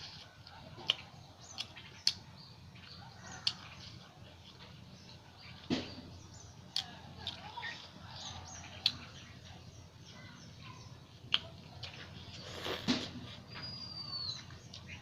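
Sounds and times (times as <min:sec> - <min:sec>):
chewing: 0:00.0 - 0:05.9, 0:06.7 - 0:09.6, 0:11.1 - 0:15.0
birds chirping: 0:00.0 - 0:15.0.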